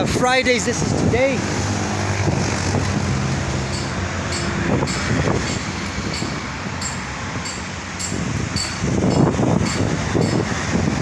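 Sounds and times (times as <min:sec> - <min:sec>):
road traffic noise: 0:00.0 - 0:11.0
vehicle engine humming: 0:00.6 - 0:11.0.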